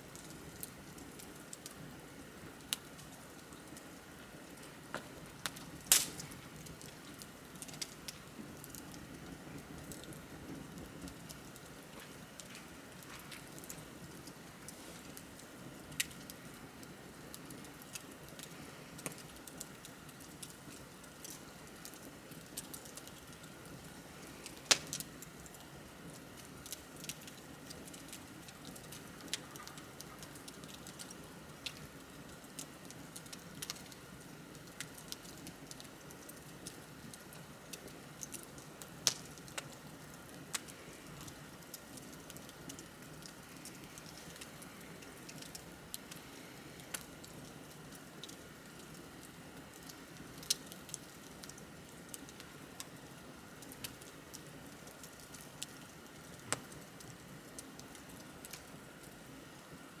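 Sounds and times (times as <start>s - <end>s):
wood bonfire crackling: 0.0s - 60.0s.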